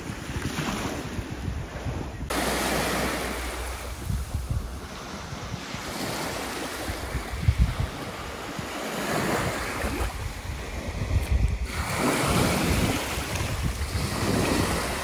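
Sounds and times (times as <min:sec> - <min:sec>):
small waves lapping on sand: 0:00.0 - 0:15.0
wind buffeting microphone: 0:00.0 - 0:15.0.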